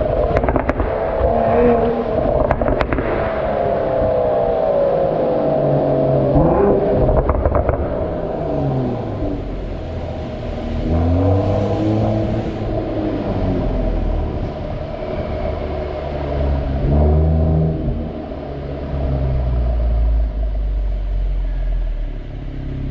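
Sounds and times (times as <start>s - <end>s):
car engine rumbling and revving: 0.0s - 22.9s.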